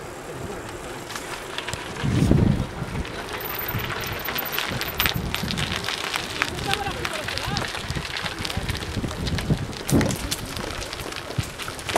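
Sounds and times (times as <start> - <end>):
wind buffeting microphone: 1.6 - 11.9.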